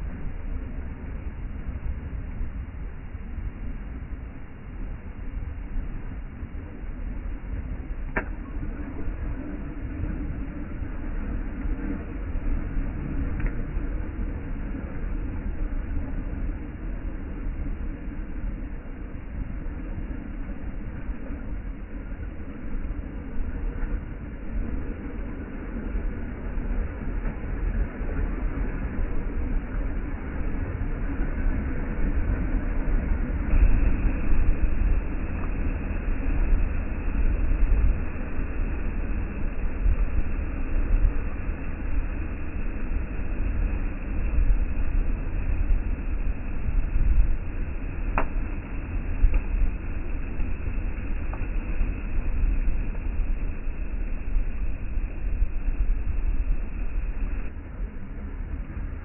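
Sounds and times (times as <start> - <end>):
ocean wind and surf rumbling: 0.0 - 59.0.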